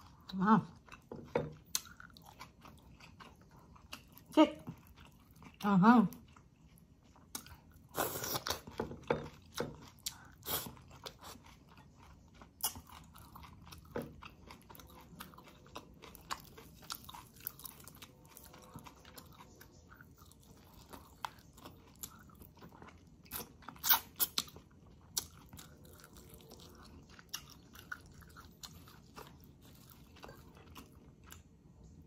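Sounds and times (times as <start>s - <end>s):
person chewing and biting: 0.8s - 5.6s, 6.2s - 31.9s.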